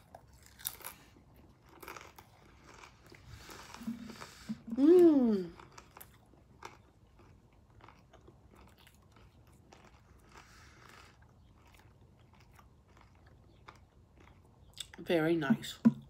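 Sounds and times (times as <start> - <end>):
crunchy food chewing: 0.0 - 4.8, 5.4 - 15.0.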